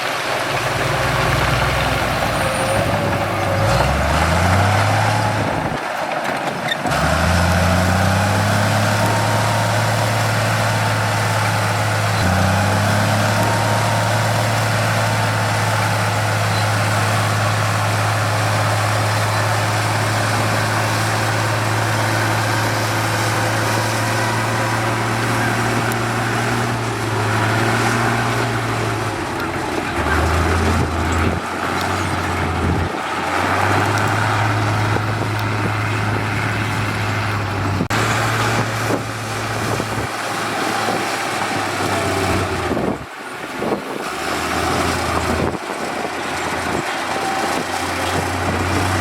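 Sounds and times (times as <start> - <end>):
heavy diesel engine revving: 0.0 - 49.0.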